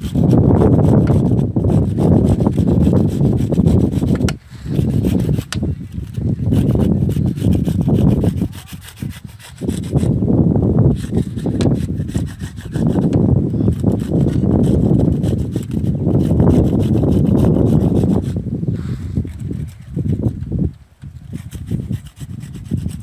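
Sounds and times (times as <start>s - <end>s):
mango scraping on metal grater: 0.0s - 10.2s, 10.8s - 18.4s, 21.2s - 23.0s.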